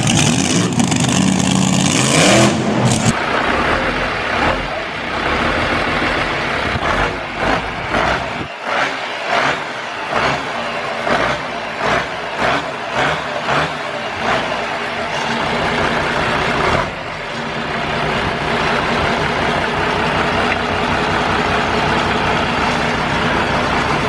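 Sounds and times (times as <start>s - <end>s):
engine running with uneven pulsing: 0.0s - 24.0s
trike engine revving: 0.0s - 24.0s.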